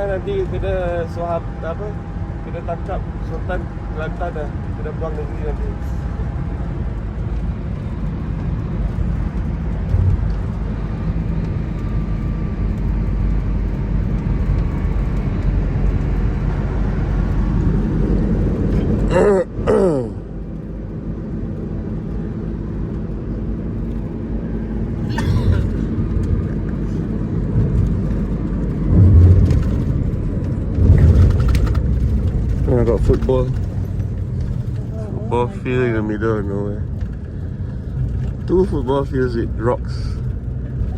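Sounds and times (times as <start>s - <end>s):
minibus engine and road rumble: 0.0s - 40.9s.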